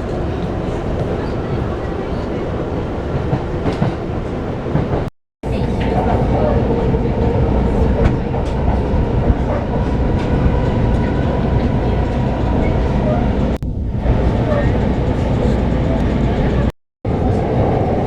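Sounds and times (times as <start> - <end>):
train rumbling with wheel clatter: 0.0 - 18.0
train whine: 0.0 - 18.0.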